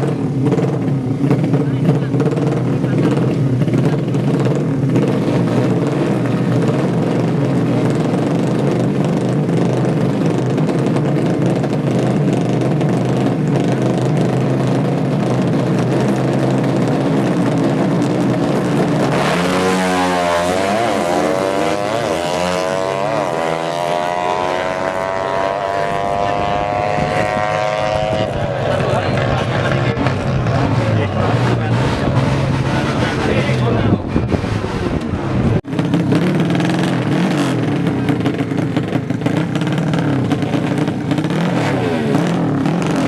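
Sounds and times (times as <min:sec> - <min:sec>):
motorcycle accelerating hard: 0:00.0 - 0:43.0
motorcycle engines running: 0:00.0 - 0:43.0.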